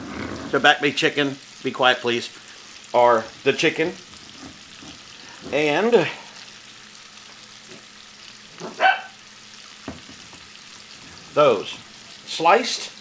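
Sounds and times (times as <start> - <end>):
chicken and onions sizzling: 0.0 - 13.0.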